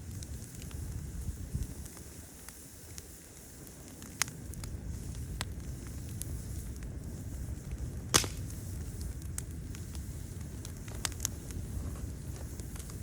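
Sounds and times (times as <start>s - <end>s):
loud fire snap: 0.0s - 13.0s
wood fire crackling and popping: 0.0s - 13.0s.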